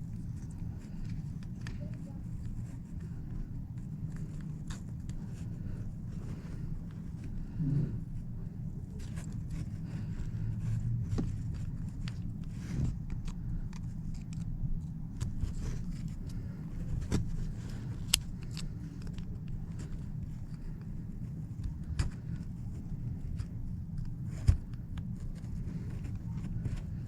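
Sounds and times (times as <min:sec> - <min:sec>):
steady low rumble: 0:00.0 - 0:27.0
light clicks and taps: 0:00.1 - 0:07.4, 0:08.8 - 0:27.0.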